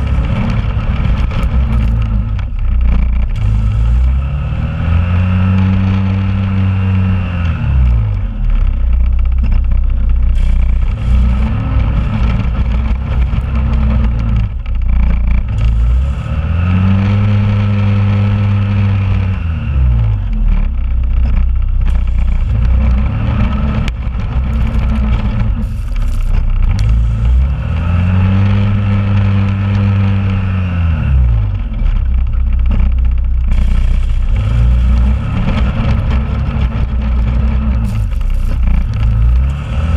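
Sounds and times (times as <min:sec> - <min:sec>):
atv engine running under load: 0:00.0 - 0:39.9.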